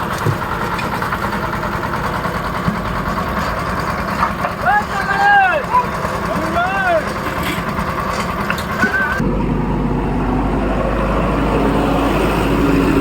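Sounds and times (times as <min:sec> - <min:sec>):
construction machinery engine running: 0:00.0 - 0:13.0
deep engine drone: 0:00.0 - 0:13.0.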